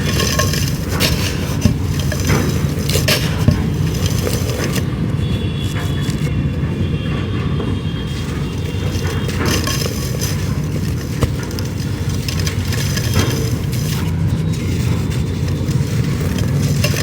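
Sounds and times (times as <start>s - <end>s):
dry clay crunching by hand: 0.0s - 17.0s.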